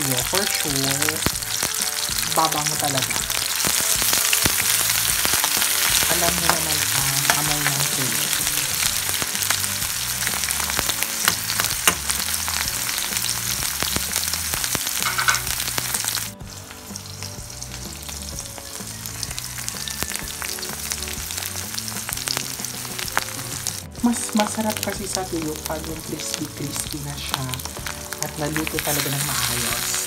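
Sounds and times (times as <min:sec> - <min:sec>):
fish sizzling in hot oil: 0:00.0 - 0:30.0.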